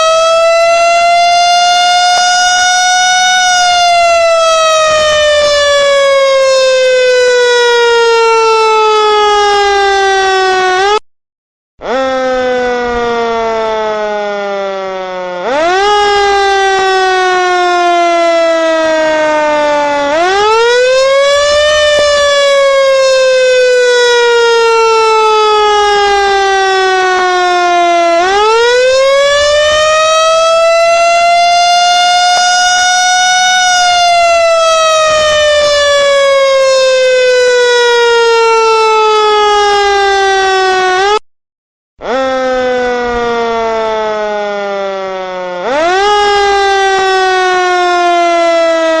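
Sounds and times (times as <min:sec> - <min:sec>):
siren wailing: 0:00.0 - 0:11.0, 0:11.8 - 0:41.2, 0:42.0 - 0:49.0.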